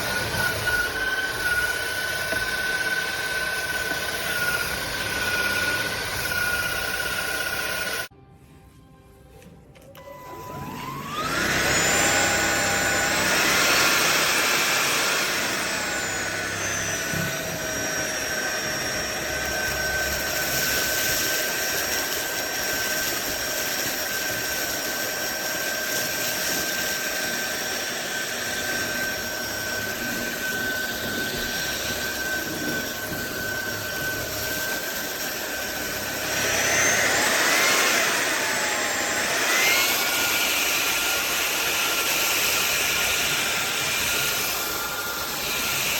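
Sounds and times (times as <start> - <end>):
vacuum cleaner motor whine: 0.0 - 8.2, 9.8 - 45.9.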